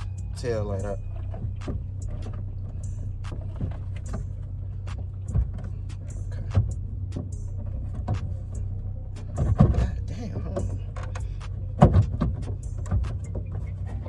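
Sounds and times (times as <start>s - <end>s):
loud thumps: 0.0s - 14.0s
steady low hum: 0.0s - 14.0s.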